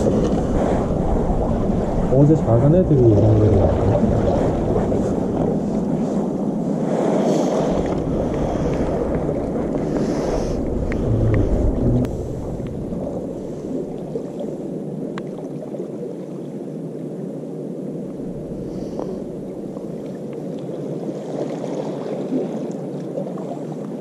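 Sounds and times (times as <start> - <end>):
sea water rushing: 0.0 - 24.0.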